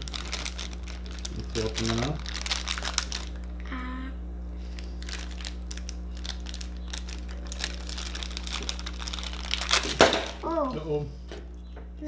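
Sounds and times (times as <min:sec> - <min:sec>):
plastic bag crinkling: 0:00.0 - 0:03.5, 0:04.6 - 0:10.8.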